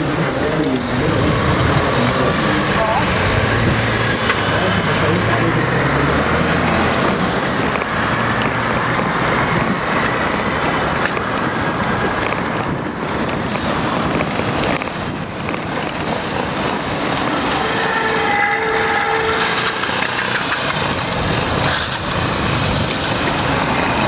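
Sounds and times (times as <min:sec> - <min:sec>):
street traffic: 0:00.0 - 0:24.0
wind rushing over microphone: 0:00.0 - 0:24.0.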